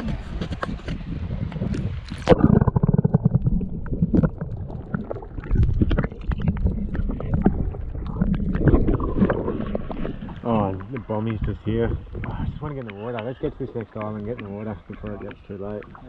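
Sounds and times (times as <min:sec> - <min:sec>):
underwater gurgling and sloshing: 0:00.0 - 0:16.0.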